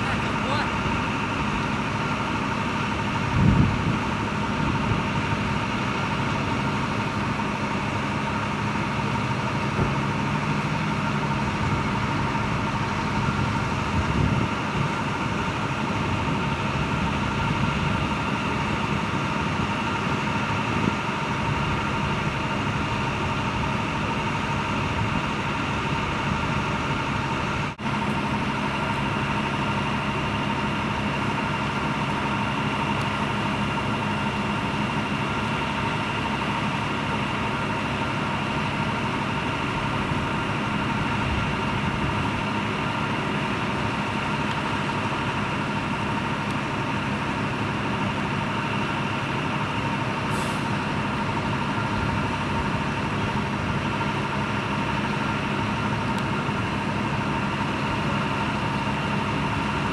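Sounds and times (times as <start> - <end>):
constant whine: 0.0 - 59.9
engine idling: 0.0 - 59.9.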